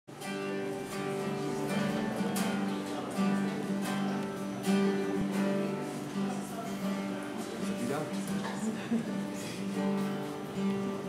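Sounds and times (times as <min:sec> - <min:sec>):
acoustic guitar strumming chords: 0:00.1 - 0:11.0.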